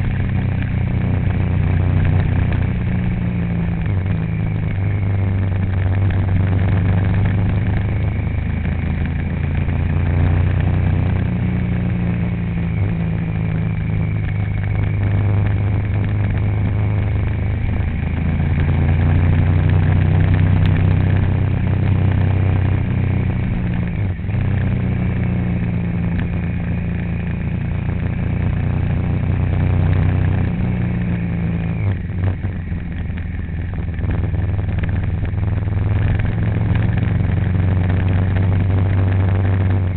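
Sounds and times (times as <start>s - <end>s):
road noise: 0.0s - 39.9s
vehicle engine droning: 0.0s - 39.9s.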